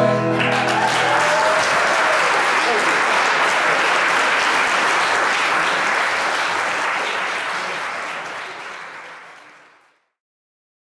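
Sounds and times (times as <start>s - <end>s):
audience applauding: 0.2s - 10.1s.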